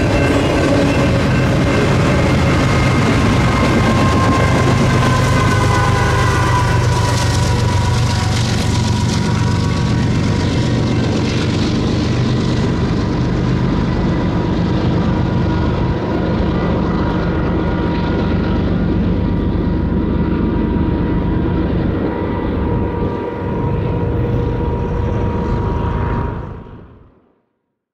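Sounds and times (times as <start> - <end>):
freight train rumbling: 0.0 - 27.1.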